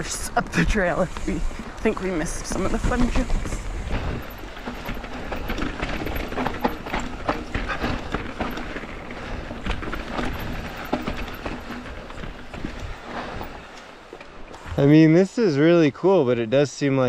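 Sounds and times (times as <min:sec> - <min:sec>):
bike rattling and clattering: 0:00.0 - 0:14.9
bike tyres crunching on dirt: 0:00.1 - 0:15.1.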